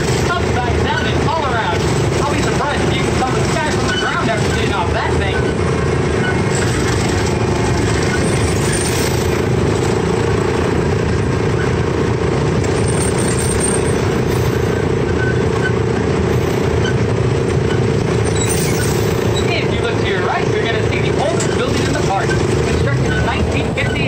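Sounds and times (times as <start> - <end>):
miniature train engine drone: 0.0 - 24.0.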